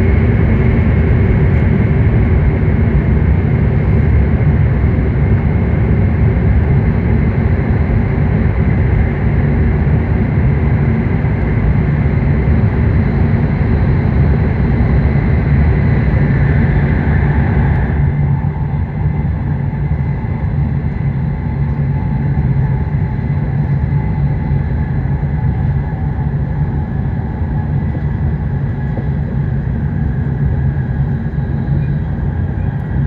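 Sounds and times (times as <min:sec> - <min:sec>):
train cabin low rumble: 0:00.0 - 0:33.0.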